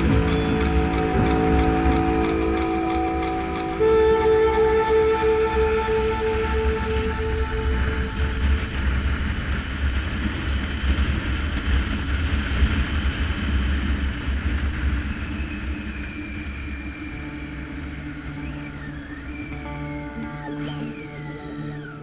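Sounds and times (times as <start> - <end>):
road noise: 0.0 - 22.0
wind rumble on microphone: 0.0 - 22.0.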